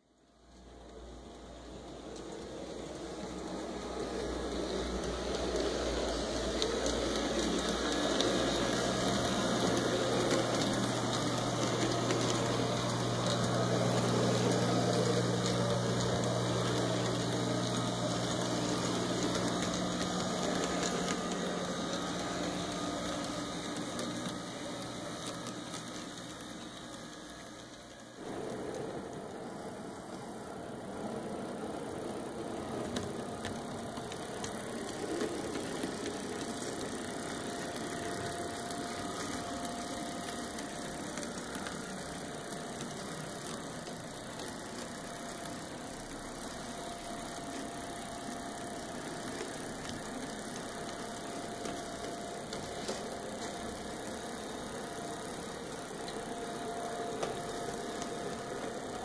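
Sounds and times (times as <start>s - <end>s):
wheels rolling on rails: 0.5s - 59.0s
model train motor whirring: 0.6s - 59.0s.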